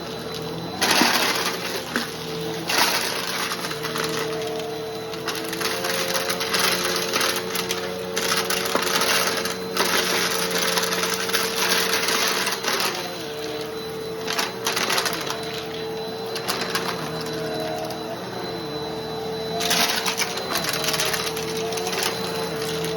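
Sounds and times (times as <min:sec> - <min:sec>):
vacuum motor whine: 0:00.0 - 0:22.9.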